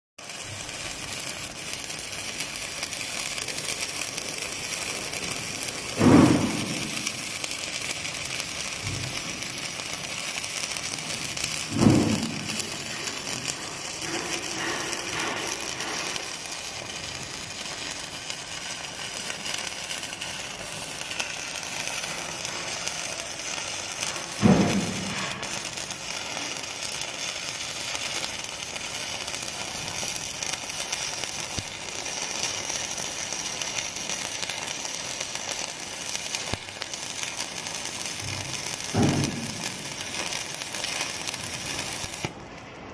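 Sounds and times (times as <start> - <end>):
welding arc crackling hiss: 0.2 - 42.9.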